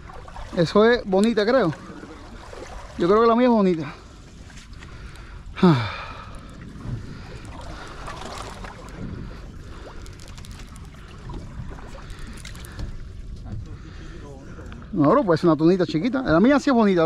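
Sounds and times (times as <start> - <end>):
sea water: 0.0 - 17.0
wind: 0.0 - 17.0.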